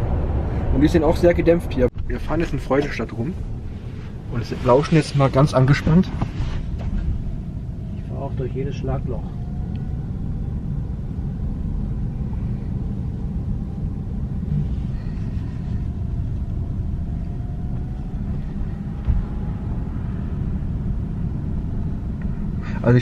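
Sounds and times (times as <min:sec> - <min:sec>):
faint whine: 0:00.0 - 0:23.0
road and tyre rumble in car: 0:00.0 - 0:23.0.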